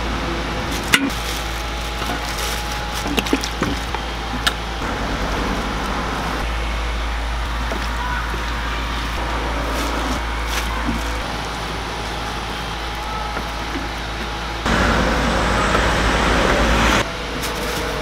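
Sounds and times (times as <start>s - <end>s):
background hum and rumble: 0.0s - 18.0s.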